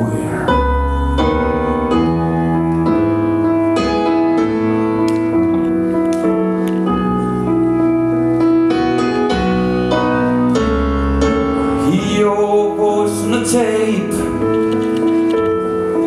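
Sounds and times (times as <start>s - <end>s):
bass notes: 0.0s - 16.0s
keyboard chords: 0.0s - 16.0s.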